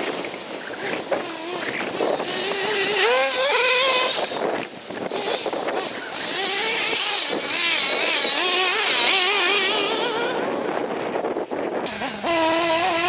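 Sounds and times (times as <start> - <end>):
rc buggy motor revving: 0.0 - 13.0.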